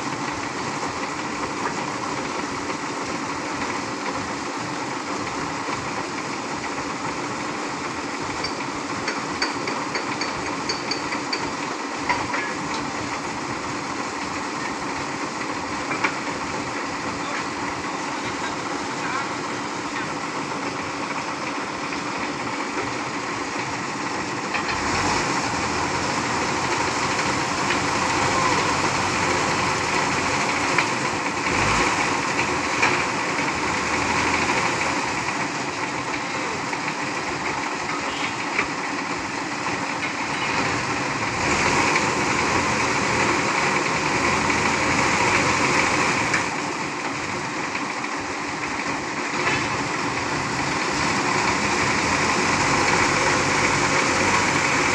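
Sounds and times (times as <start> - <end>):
diesel truck engines running: 0.0 - 54.9.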